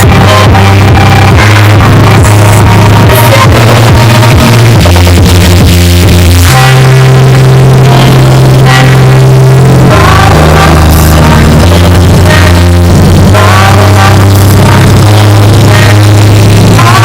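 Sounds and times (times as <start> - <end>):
person singing: 0.0 - 17.0
rock music: 0.0 - 17.0.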